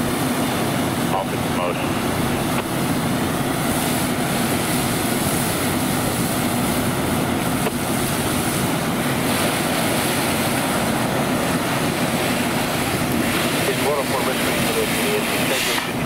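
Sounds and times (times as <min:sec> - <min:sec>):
fire engine pump droning: 0:00.0 - 0:16.0
fire hose water rushing: 0:00.0 - 0:16.0.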